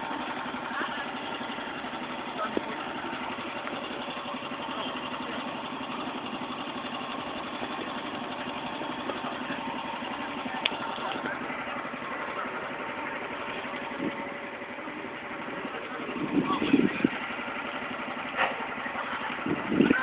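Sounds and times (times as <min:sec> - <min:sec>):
small train engine idling: 0:00.0 - 0:20.0.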